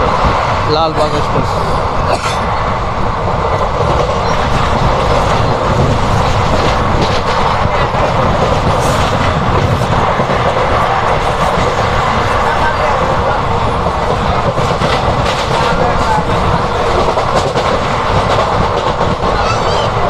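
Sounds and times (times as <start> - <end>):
train passing: 0.0 - 20.0
train wheels clattering on rails: 0.0 - 20.0.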